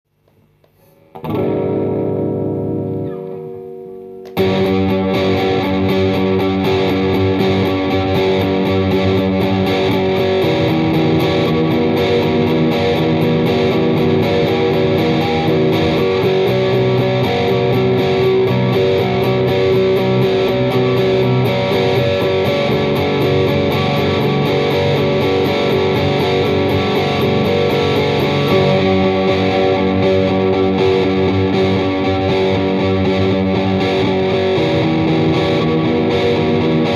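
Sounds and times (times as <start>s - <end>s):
distorted electric guitar chords: 0.1s - 36.9s.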